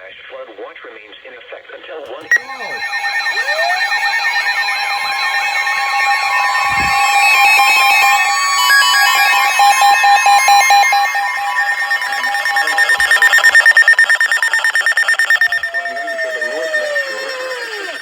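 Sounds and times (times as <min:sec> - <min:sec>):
weather alert radio alarms beeping: 0:02.1 - 0:18.0.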